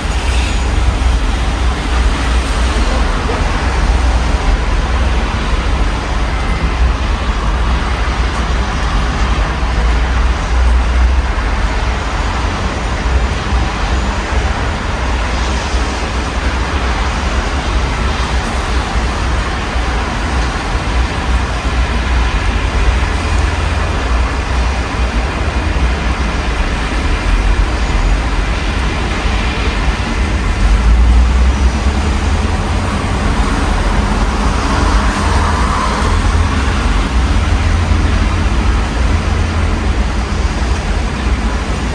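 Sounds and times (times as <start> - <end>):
steady rain hiss: 0.0 - 41.9
traffic rumble: 0.0 - 41.9.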